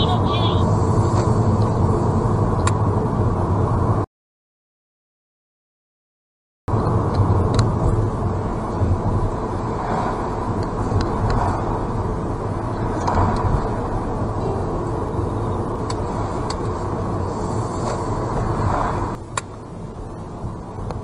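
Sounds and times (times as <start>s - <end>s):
road and tyre noise in car: 0.0s - 4.1s, 6.7s - 21.0s.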